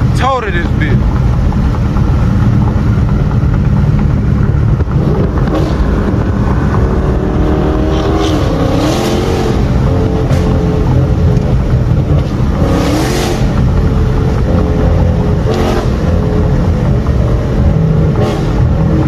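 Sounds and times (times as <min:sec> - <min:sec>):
car exhaust rumble: 0:00.0 - 0:19.0
higher engine note: 0:00.0 - 0:19.0.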